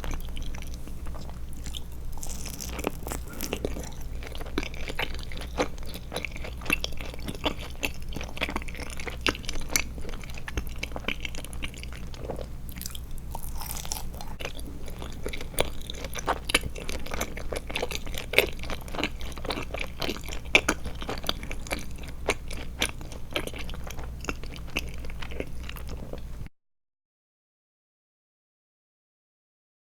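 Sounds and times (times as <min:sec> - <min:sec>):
chewing gummy candy: 0:00.0 - 0:26.4.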